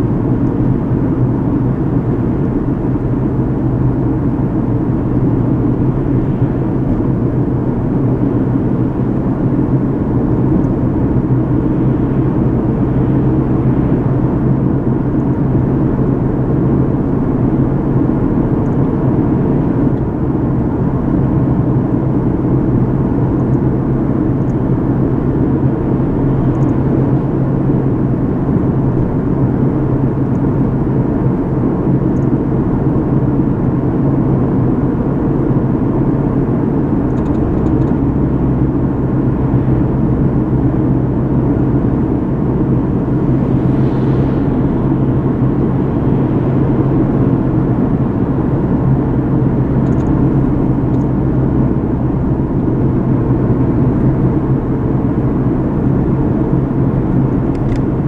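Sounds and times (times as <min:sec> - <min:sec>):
car engine and road hum: 0:00.0 - 0:58.0.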